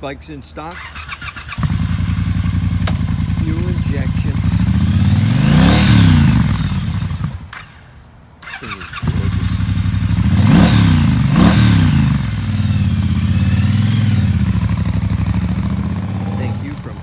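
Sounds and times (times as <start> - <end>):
motorcycle engine starting and revving: 0.7 - 17.0.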